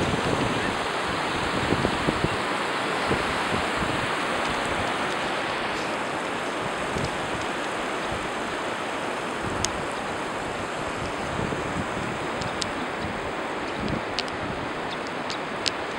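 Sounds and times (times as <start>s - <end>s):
ocean surf: 0.0s - 15.9s
wind: 0.0s - 15.9s.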